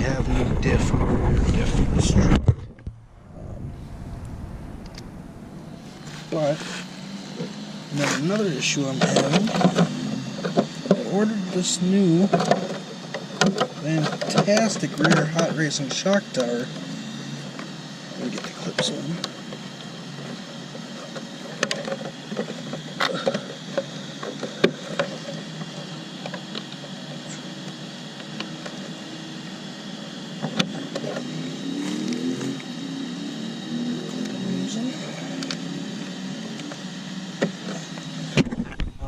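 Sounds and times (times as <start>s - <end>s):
low wavering hum: 0.0s - 39.0s.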